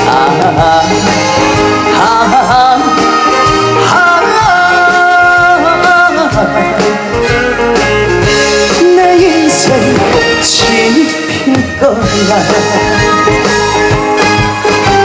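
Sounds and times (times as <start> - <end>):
live band with steady beat: 0.0 - 15.0.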